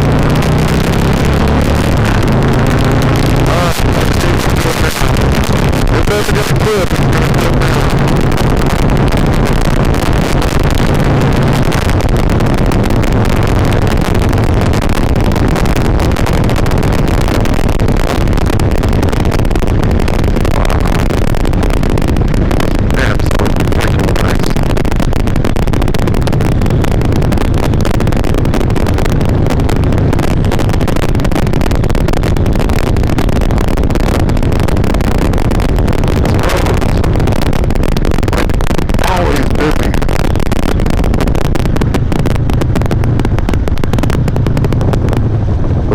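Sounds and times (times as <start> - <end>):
motorcycle engine running: 0.0 - 45.9
wind rushing: 0.0 - 45.9.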